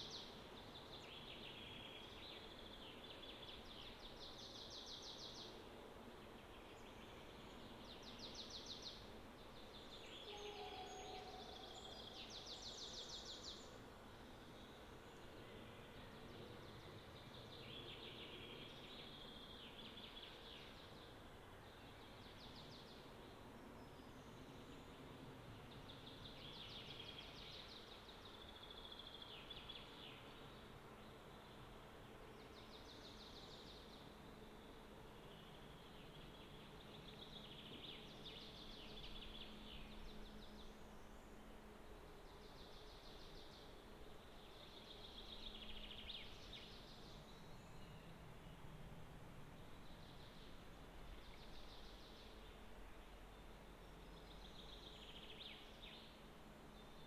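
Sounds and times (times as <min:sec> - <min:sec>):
low even hiss: 0:00.0 - 0:57.0.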